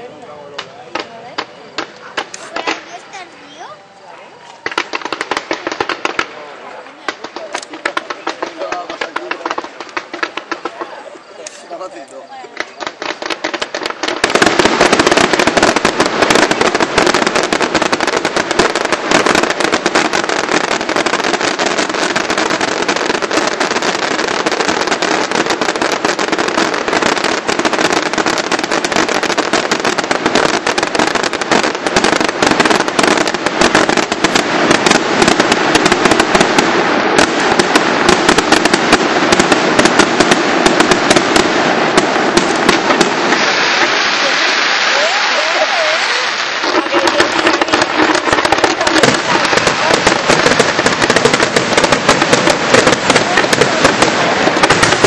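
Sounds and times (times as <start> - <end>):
fireworks exploding and crackling: 0.0 - 55.0.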